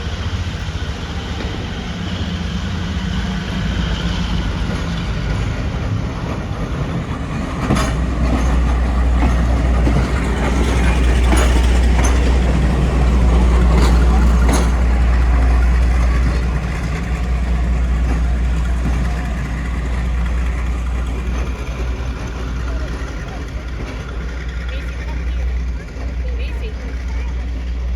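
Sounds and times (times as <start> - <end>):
locomotive engine rumble: 0.0 - 27.9.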